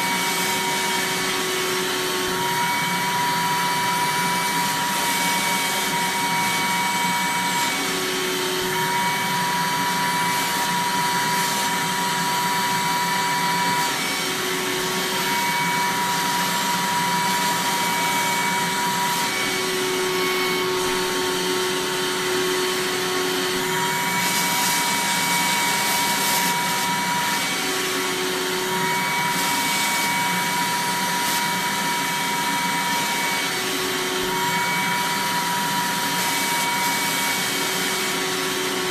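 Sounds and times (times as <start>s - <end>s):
vacuum cleaner whine: 0.0s - 38.9s.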